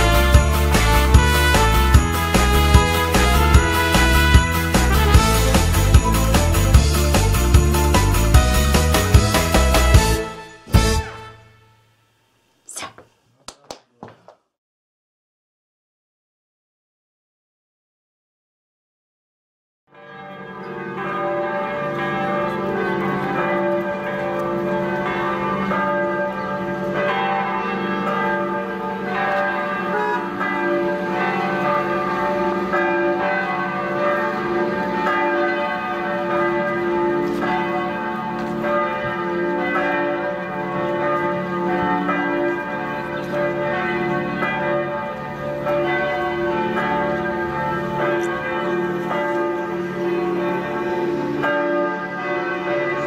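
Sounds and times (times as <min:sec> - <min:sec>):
church bells ringing: 0:00.0 - 0:10.9, 0:20.0 - 0:53.0.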